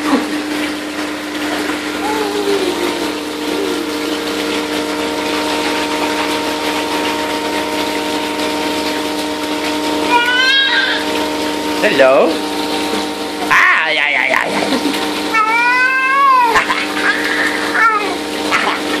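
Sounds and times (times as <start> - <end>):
steady hum: 0.0 - 19.0
water pouring into bathtub: 0.0 - 19.0.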